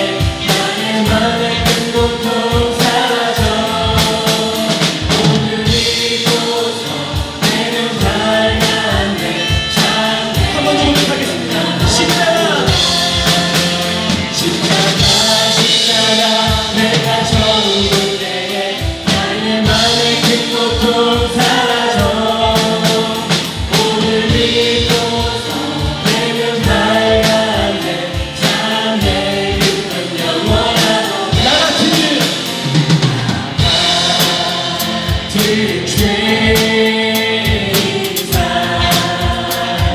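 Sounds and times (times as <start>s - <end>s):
band playing worship song: 0.0s - 39.9s
drum kit beat: 0.0s - 39.9s
voices singing together: 0.0s - 39.9s.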